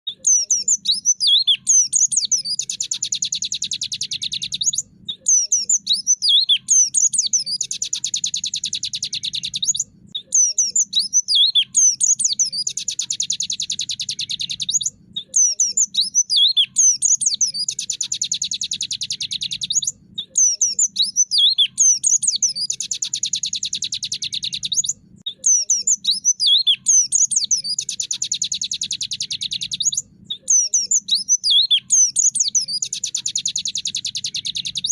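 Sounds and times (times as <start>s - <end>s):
bird chirping and trilling: 0.1s - 34.9s.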